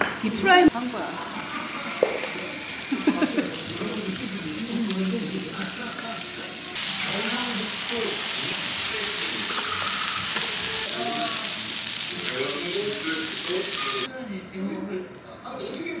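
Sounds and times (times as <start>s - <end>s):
meat sizzling on a grill: 0.0s - 14.1s
faint voices: 0.0s - 16.0s.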